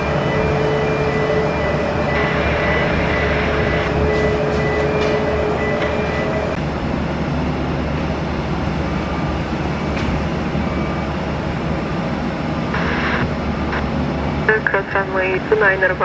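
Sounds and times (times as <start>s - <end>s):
faint whine: 0.0s - 16.0s
jet engines rumbling: 0.0s - 16.0s.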